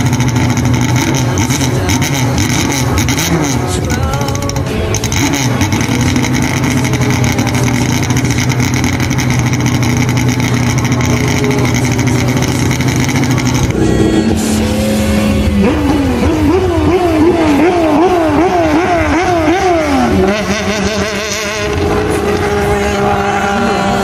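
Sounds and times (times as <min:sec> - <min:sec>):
race car engine idling: 0:00.0 - 0:24.0.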